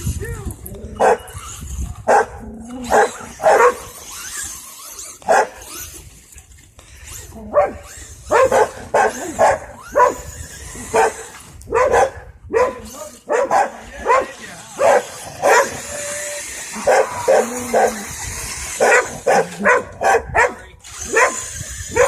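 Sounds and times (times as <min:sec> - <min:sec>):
dog barking and yelping: 0:00.9 - 0:01.4, 0:02.1 - 0:04.4, 0:05.2 - 0:05.8, 0:07.4 - 0:22.0.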